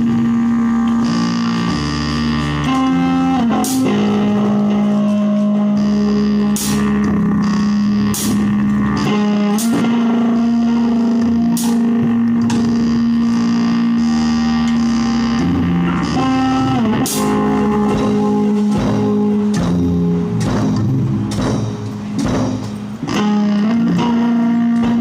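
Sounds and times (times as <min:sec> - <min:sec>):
distorted electric guitar: 0:00.0 - 0:25.0.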